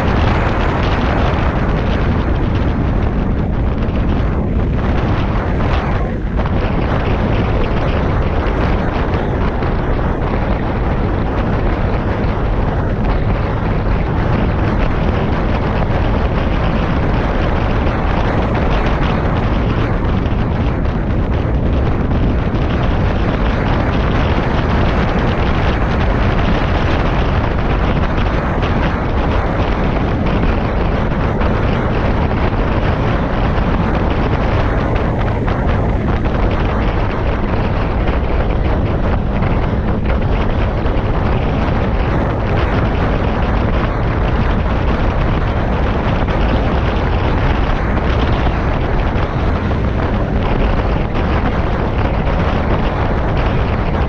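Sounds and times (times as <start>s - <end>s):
scooter engine and road noise: 0.0s - 54.0s
wind rumble on microphone: 0.0s - 54.0s.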